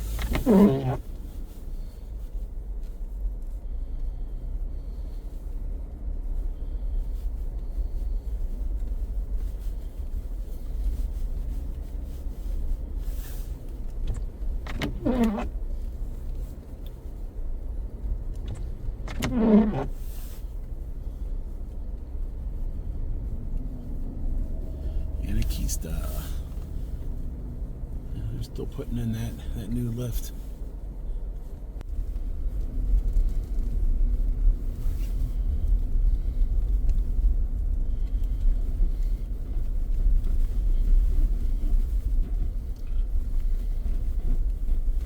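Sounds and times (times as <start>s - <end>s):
car road noise rumble: 0.0s - 45.0s.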